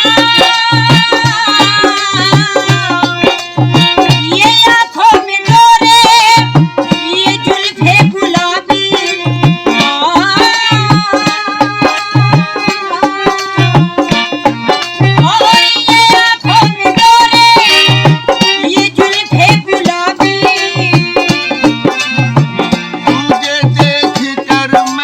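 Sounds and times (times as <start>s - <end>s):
steady drum beat: 0.0s - 25.0s.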